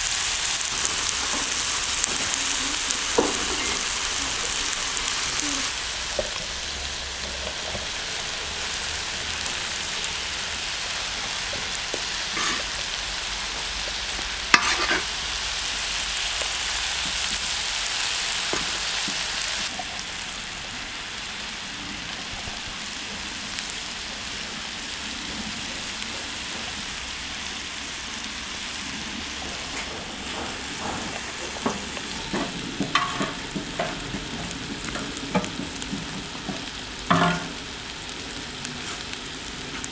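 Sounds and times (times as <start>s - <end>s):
food sizzling on griddle: 0.0s - 39.9s.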